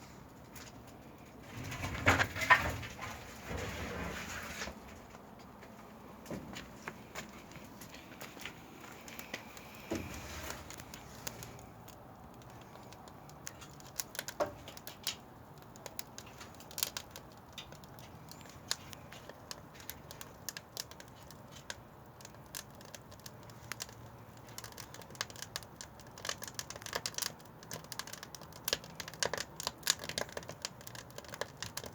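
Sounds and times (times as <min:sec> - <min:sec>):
firewood crackling and popping: 0:00.2 - 0:31.9.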